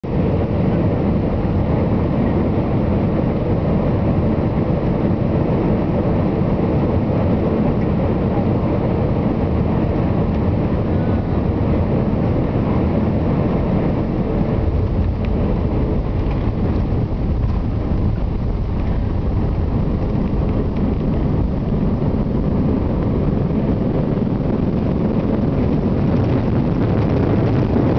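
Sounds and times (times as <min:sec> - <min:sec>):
jet engine roar and rushing air: 0:00.0 - 0:27.9.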